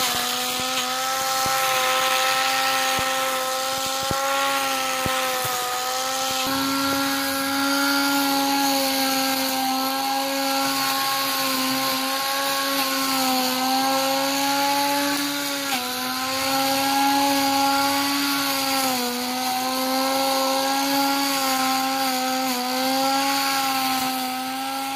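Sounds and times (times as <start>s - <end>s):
angle grinder whining: 0.0s - 24.9s.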